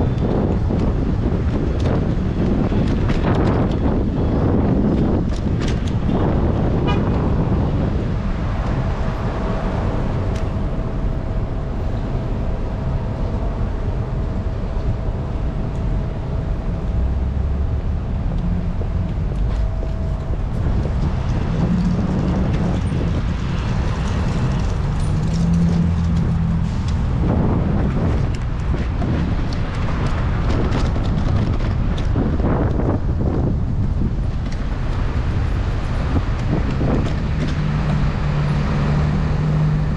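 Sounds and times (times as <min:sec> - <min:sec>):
low rumble of passing vehicles: 0:00.0 - 0:39.9.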